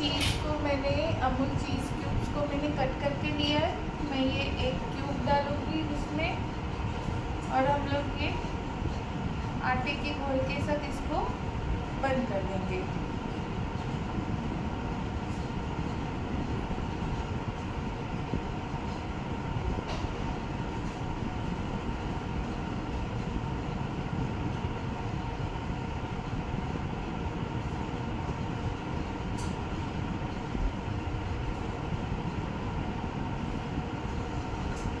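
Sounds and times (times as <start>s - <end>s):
faint hum: 0.0s - 35.0s
low mechanical rumble: 0.0s - 35.0s.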